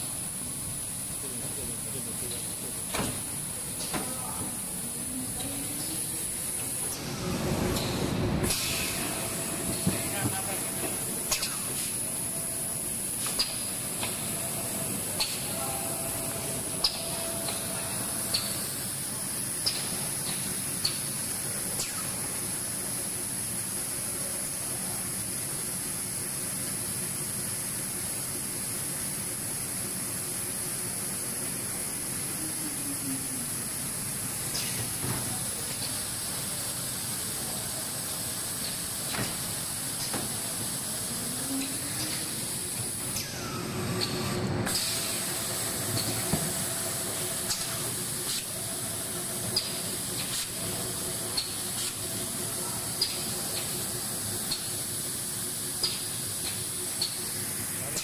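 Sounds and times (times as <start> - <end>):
machine mechanical hiss: 0.0 - 58.0.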